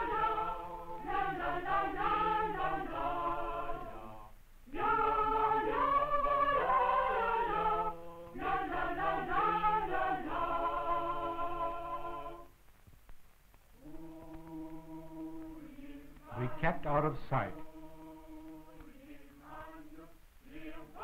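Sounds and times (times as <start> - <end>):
choir singing: 0.0 - 12.6, 13.8 - 21.0.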